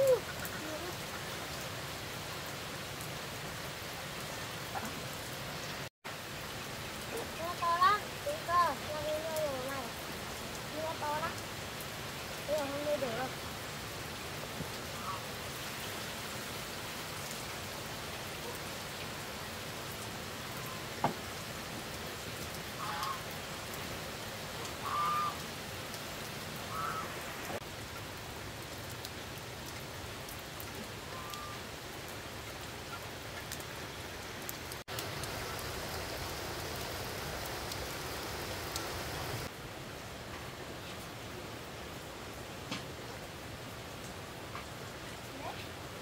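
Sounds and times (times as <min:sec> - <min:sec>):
rain hissing: 0:00.0 - 0:46.0.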